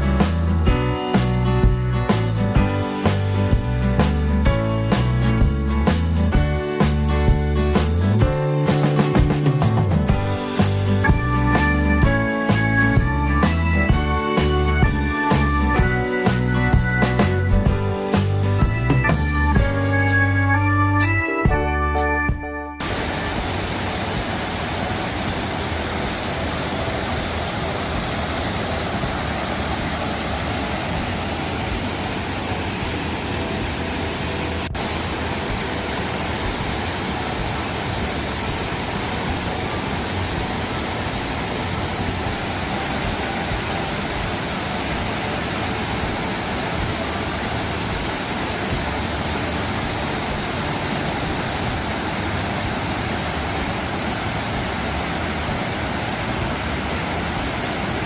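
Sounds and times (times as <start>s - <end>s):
waterfall rushing: 0.0s - 20.0s, 22.8s - 58.0s.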